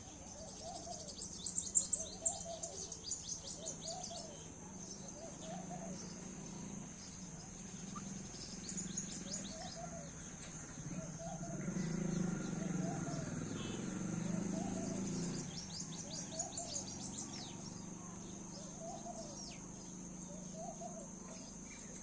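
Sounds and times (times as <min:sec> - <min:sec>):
lower repeated bird call: 0:00.0 - 0:22.0.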